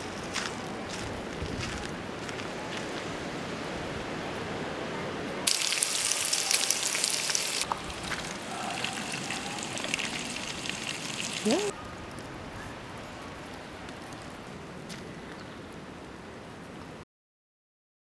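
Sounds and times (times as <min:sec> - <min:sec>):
steady rain falling: 0:01.8 - 0:17.0.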